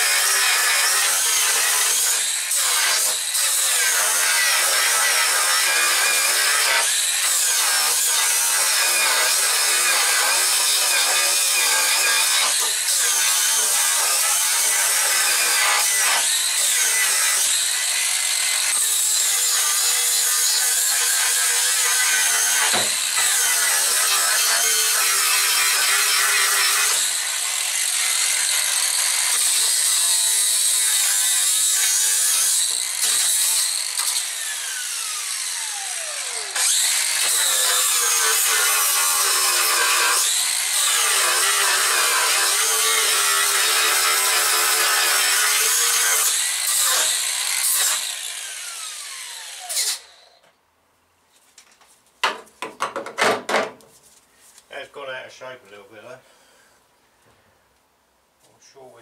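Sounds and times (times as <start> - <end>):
angle grinder grinding steel: 0.0 - 50.3.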